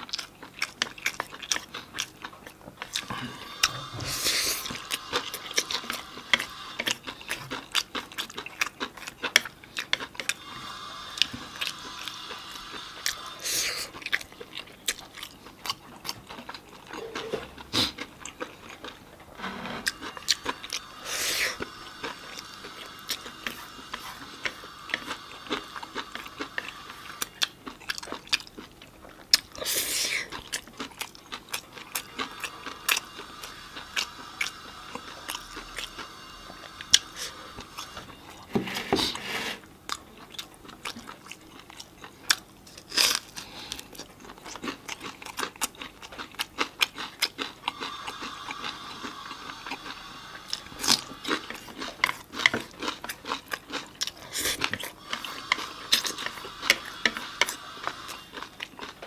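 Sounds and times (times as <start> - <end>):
person chewing noodles: 0.0 - 59.0.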